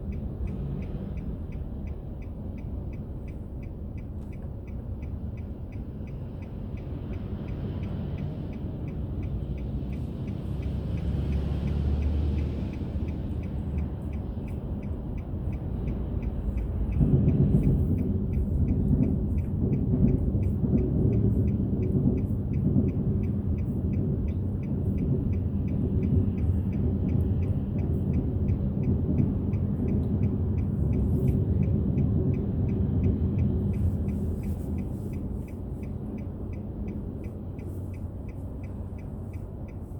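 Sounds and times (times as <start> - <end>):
car engine and road rumble: 0.0 - 39.9
faint ticking: 0.0 - 39.9.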